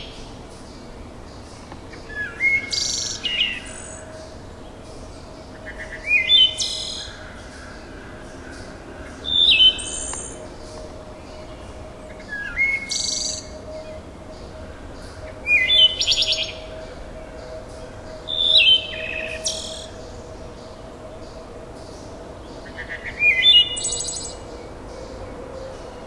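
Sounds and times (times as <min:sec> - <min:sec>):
faint steady hum: 0:00.0 - 0:26.0
songbird singing: 0:00.0 - 0:26.0.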